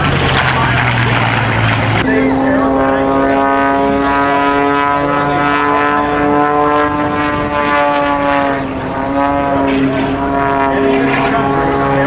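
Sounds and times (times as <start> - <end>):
propeller plane buzzing drone: 0.0 - 12.0.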